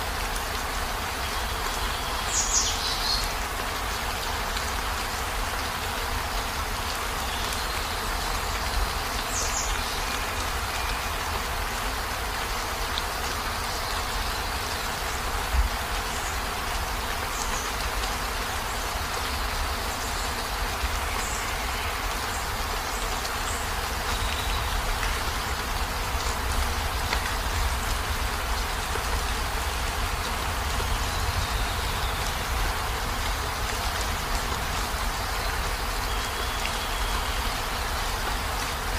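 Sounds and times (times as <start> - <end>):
heavy rain on vehicle roof: 0.0 - 38.9.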